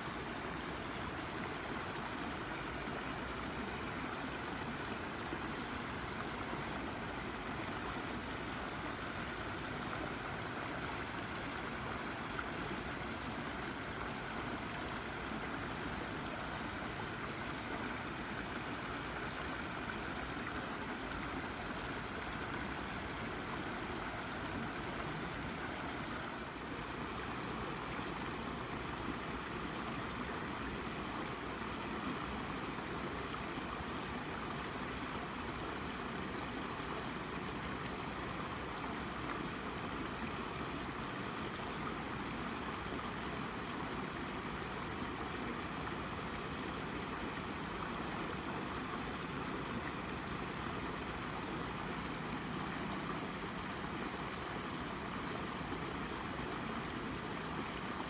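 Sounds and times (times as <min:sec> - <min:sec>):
brook babbling over rock: 0:00.0 - 0:58.0.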